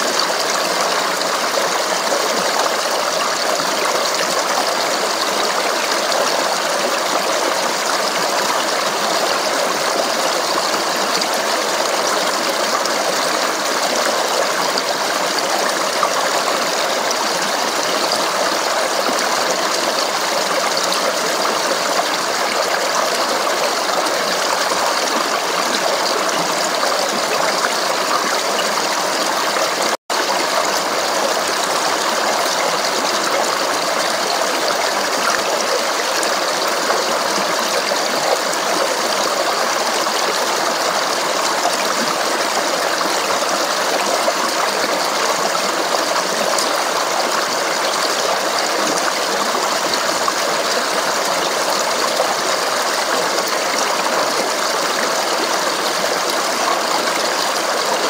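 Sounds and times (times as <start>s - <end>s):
stream splashing over rocks: 0.0s - 58.0s.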